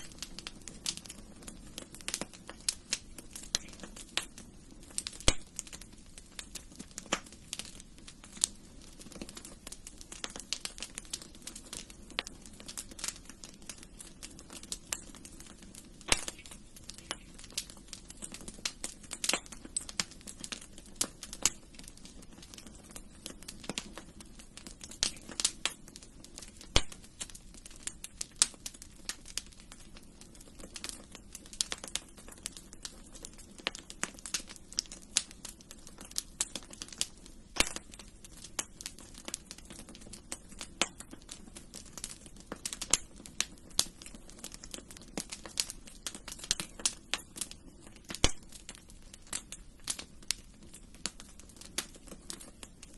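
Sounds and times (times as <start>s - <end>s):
faint hiss of flames: 0.0s - 52.9s
wood fire crackling and popping: 0.0s - 52.9s.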